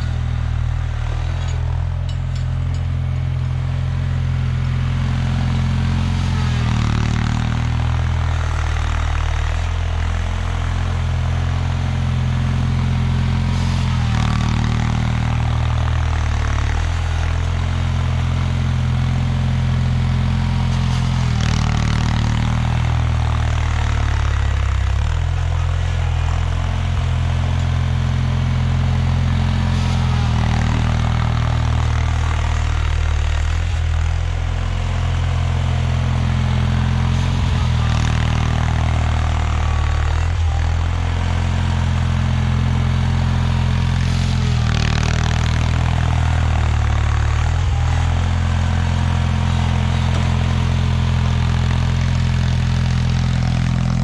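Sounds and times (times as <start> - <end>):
garden tractor engine under load: 0.0 - 54.0.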